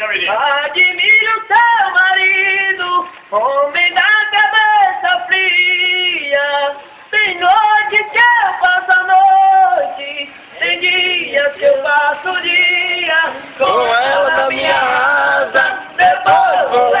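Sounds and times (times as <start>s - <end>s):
two men singing unaccompanied: 0.0s - 17.0s.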